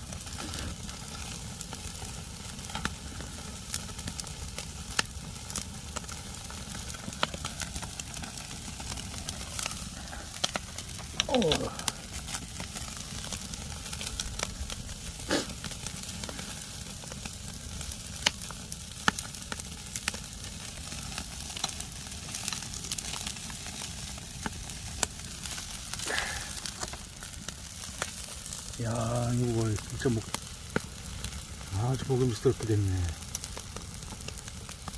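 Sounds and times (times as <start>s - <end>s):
fish fat sizzling and crackling: 0.0s - 34.9s.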